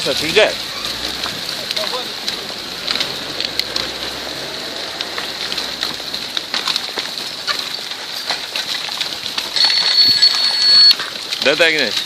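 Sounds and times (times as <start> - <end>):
sharp cracks and clicks: 0.0 - 12.0
soil and rock sliding: 0.0 - 12.0.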